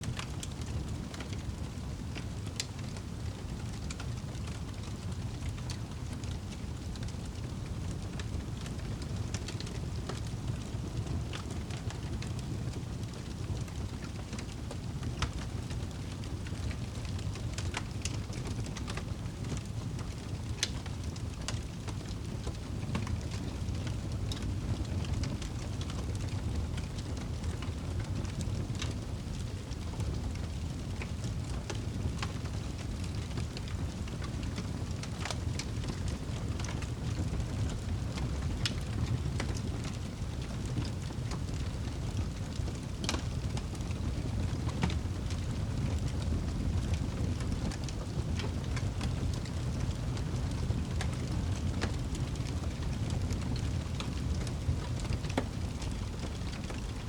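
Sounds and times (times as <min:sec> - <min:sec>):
burning logs crackling and popping: 0:00.0 - 0:57.0
flames rumbling: 0:00.0 - 0:57.0.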